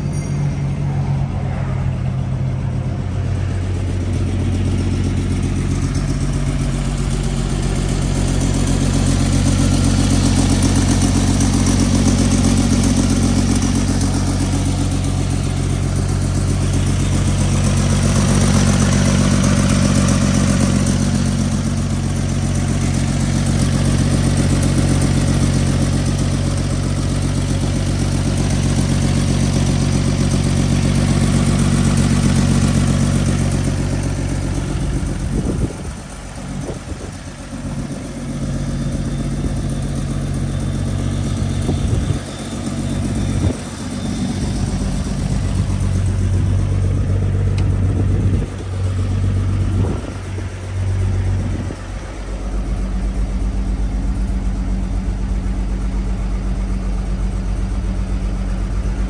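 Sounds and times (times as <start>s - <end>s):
pickup engine idling: 0.0s - 59.0s.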